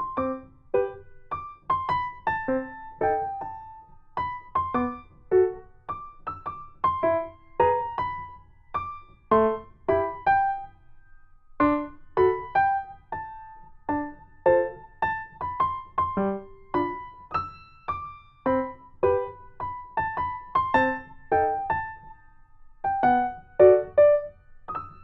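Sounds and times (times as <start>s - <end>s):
slow piano tune: 0.0s - 25.0s.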